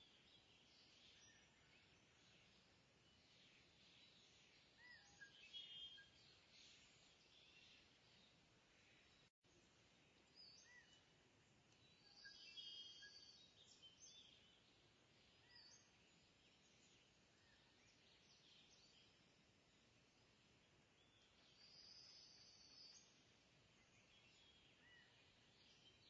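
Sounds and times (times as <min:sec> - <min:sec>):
faint bird chirps: 0:00.0 - 0:26.0
low background hiss: 0:00.0 - 0:26.0.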